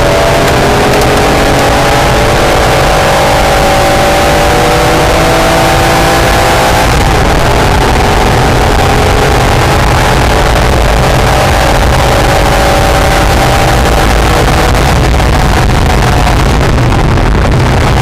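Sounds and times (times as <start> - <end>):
car engine accelerating: 0.0 - 18.0
road and wind noise: 0.0 - 18.0.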